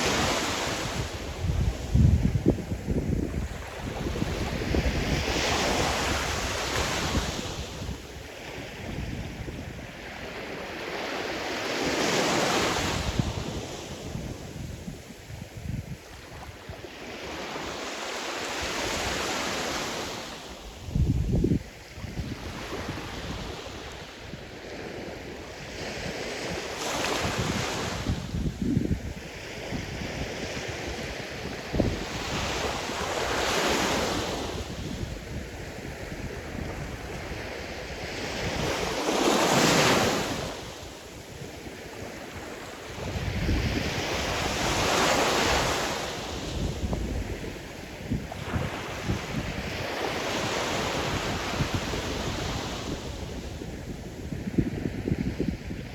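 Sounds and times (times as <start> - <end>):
wind buffeting microphone: 0.0 - 10.4, 20.8 - 42.2, 42.9 - 55.9
sea surf washing ashore: 0.0 - 55.9.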